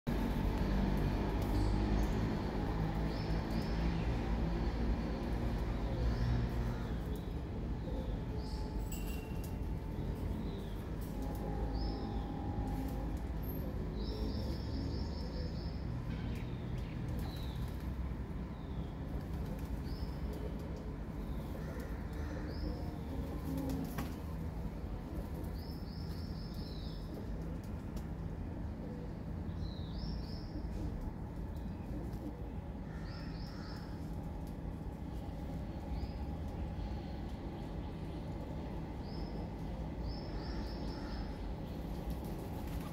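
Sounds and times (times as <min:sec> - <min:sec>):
low outdoor rumble: 0:00.1 - 0:42.9.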